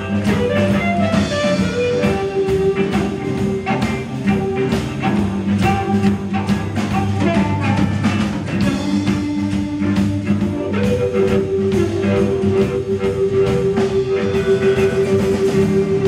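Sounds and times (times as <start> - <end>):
amplified harmonica: 0.0 - 16.0
drum kit steady beat: 0.0 - 16.0
electric and acoustic guitars: 0.0 - 16.0.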